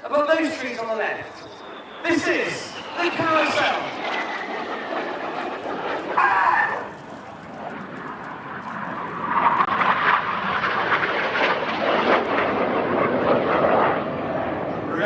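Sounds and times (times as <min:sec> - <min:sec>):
jets flying past: 0:00.0 - 0:15.0.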